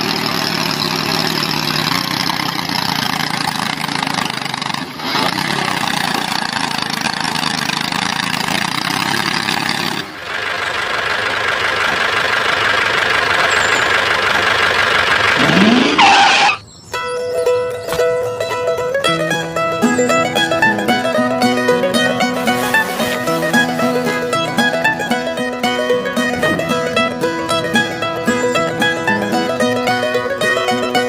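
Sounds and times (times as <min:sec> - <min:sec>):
engine-like running noise: 0:00.0 - 0:31.0.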